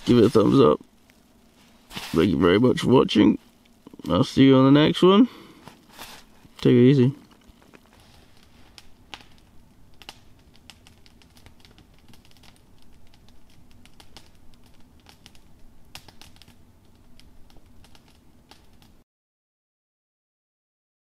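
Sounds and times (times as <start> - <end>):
campfire crackling: 0.0 - 19.0
fire snaps and pops: 0.0 - 19.0.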